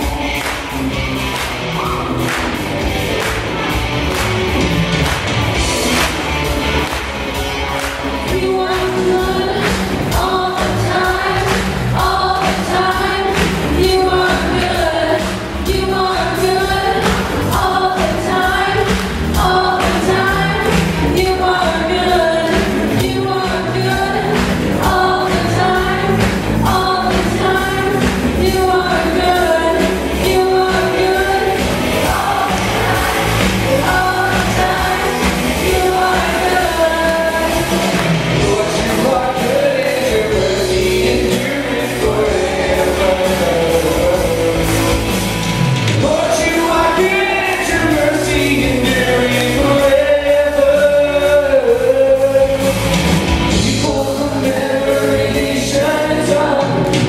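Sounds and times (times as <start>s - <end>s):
rock band playing: 0.0s - 57.0s
person singing: 8.2s - 45.1s, 46.0s - 57.0s.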